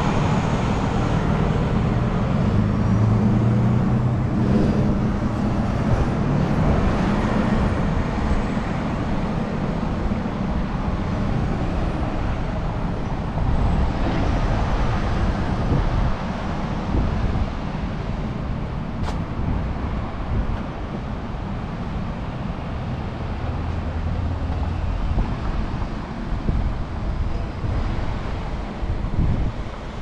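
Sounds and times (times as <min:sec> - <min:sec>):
cars and trucks driving past: 0:00.0 - 0:30.0
heavy vehicle engine hum: 0:00.0 - 0:30.0.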